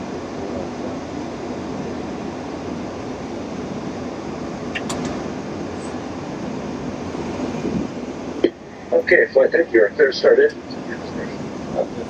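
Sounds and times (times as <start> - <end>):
cockpit ventilation hum: 0.0 - 12.0.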